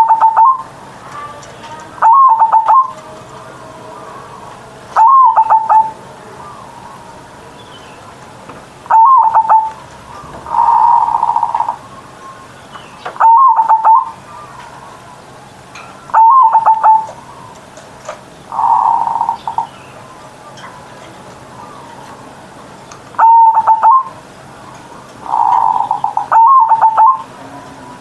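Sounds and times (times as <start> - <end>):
dove cooing: 0.0 - 7.6, 8.8 - 15.1, 16.1 - 20.4, 23.1 - 28.0.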